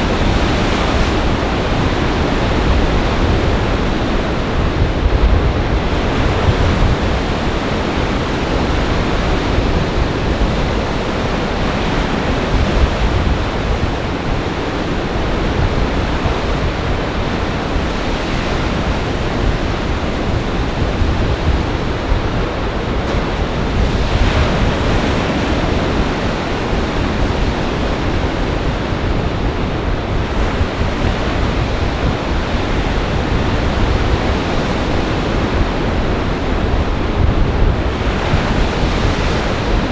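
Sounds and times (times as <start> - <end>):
storm waves breaking: 0.0 - 39.9
wind buffeting microphone: 0.0 - 39.9.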